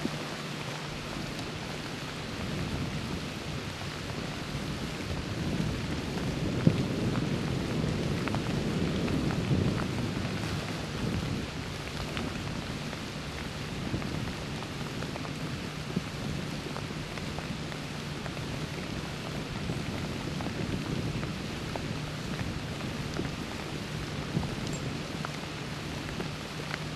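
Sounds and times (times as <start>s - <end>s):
freezing rain pattering: 0.0s - 26.9s.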